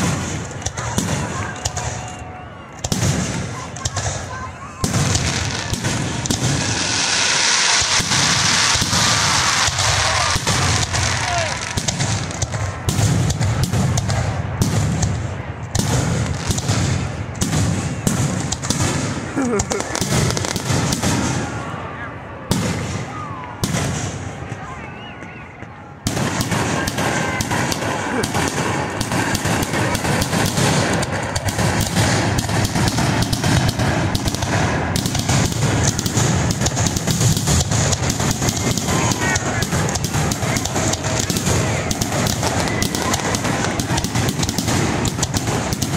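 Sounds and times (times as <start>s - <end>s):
heavy firework booms: 0.0s - 2.0s, 2.8s - 21.6s, 22.5s - 24.4s, 26.0s - 45.9s
fireworks bangs and cracks: 0.0s - 24.8s, 25.6s - 45.9s.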